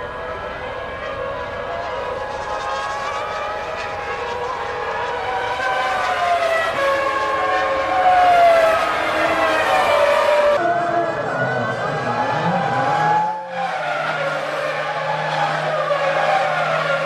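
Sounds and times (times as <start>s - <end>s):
racing car engines at high revs: 0.0s - 17.0s.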